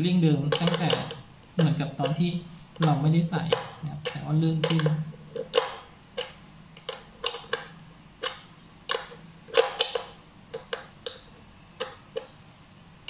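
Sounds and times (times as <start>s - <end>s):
wrench clicking on nut: 0.5s - 2.2s, 2.8s - 12.4s.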